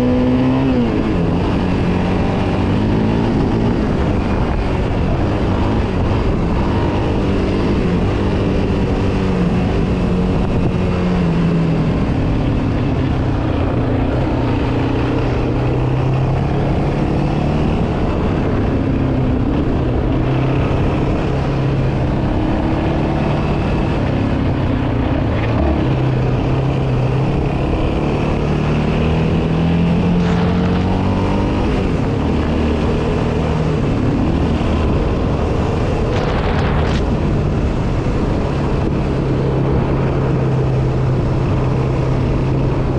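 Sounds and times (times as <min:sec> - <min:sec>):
quad engine revving: 0:00.0 - 0:12.2, 0:12.9 - 0:42.9.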